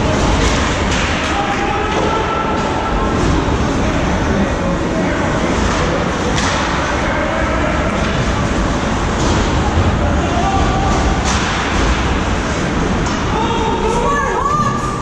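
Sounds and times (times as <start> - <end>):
crowd voices talking: 0.0 - 15.0
steady crowd rumble: 0.0 - 15.0.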